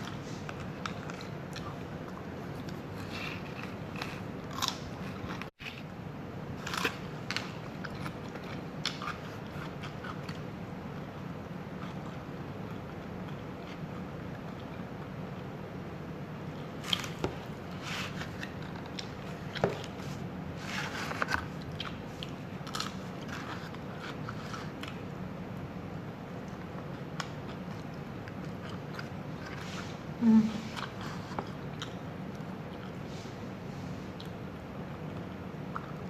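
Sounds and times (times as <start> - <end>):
person chewing food: 0.0 - 5.9, 6.6 - 15.5, 16.4 - 25.2, 26.3 - 36.0
steady low hum: 0.0 - 36.0.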